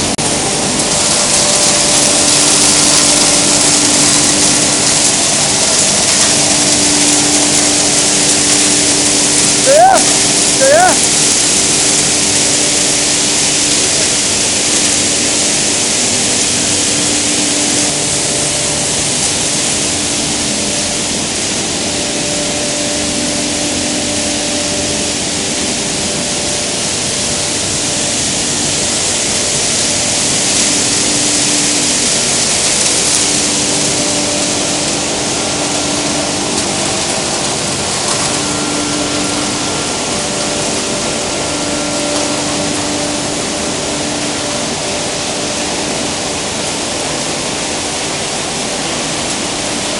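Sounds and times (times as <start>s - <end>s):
air and plastic flakes rushing: 0.0s - 49.9s
motors and blowers humming: 0.0s - 49.9s
steady hum tones: 0.0s - 49.9s.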